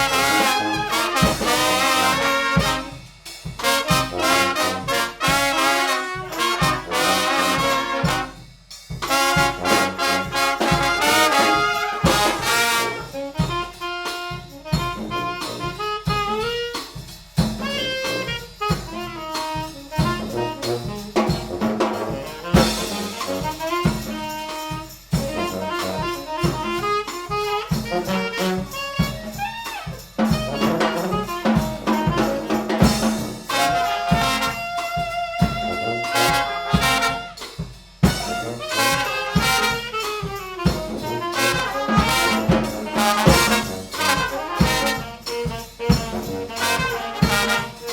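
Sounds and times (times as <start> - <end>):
brass band playing jazzy tune: 0.0 - 47.9
steady drum beat: 0.0 - 47.9.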